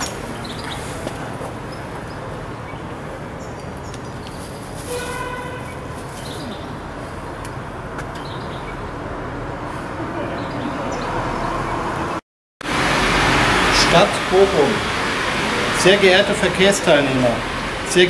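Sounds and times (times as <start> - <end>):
traffic noise: 0.0 - 18.0.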